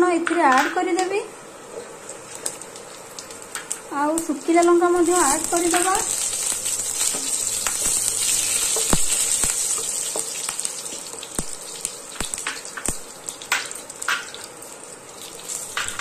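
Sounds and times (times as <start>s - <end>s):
seeds sizzling in hot oil: 0.0s - 16.0s.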